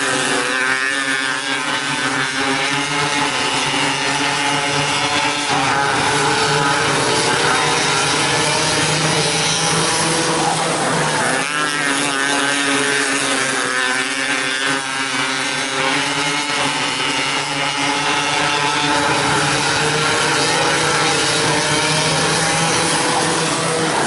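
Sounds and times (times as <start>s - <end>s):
small racing engines revving: 0.0s - 24.0s.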